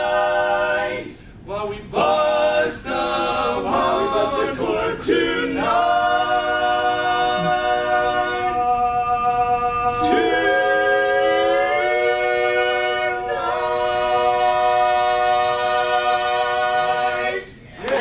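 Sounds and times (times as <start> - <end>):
male quartet singing a cappella: 0.0 - 18.0.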